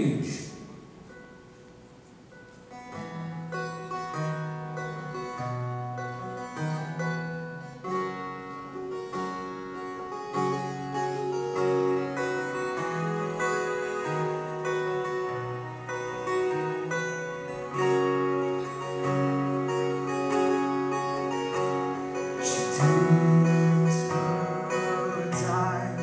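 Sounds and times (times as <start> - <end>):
picked guitar notes: 0.0 - 26.0.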